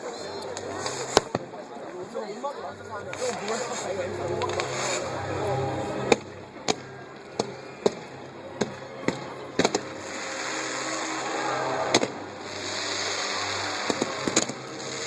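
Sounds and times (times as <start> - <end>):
fireworks crackling hiss: 0.0 - 1.6, 2.9 - 15.0
fireworks bangs and pops: 0.5 - 1.6, 3.1 - 5.2, 6.1 - 15.0.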